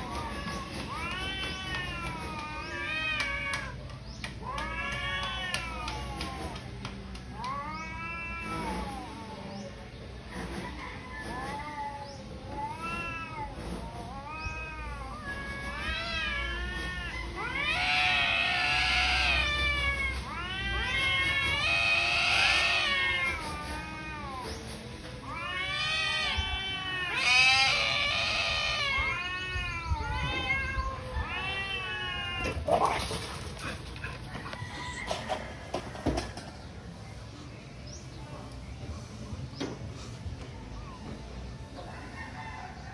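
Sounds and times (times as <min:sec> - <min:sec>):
cats yowling: 0:00.0 - 0:09.8, 0:10.8 - 0:36.0.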